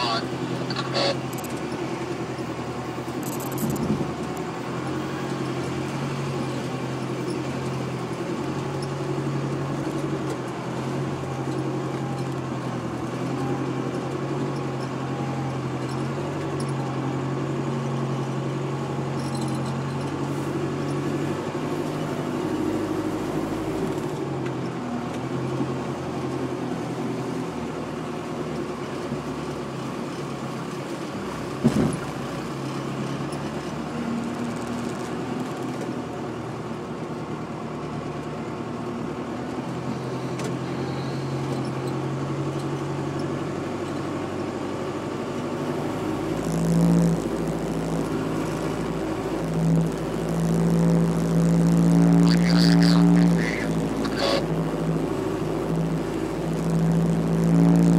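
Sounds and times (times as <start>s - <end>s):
engine low hum: 0.0s - 57.9s.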